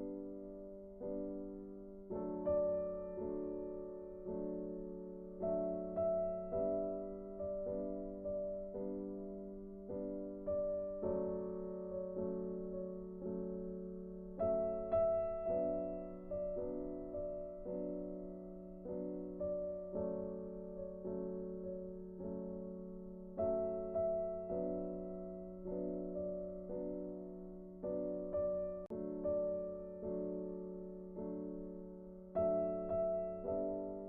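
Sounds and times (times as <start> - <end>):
gentle piano music: 0.0 - 34.0.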